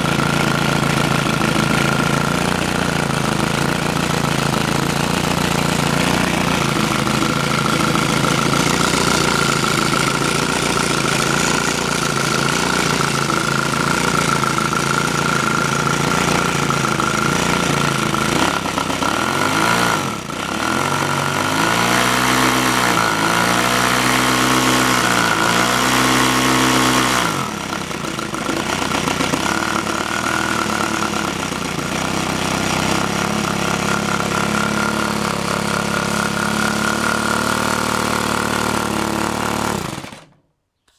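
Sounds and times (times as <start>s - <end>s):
model engine running: 0.0s - 40.4s.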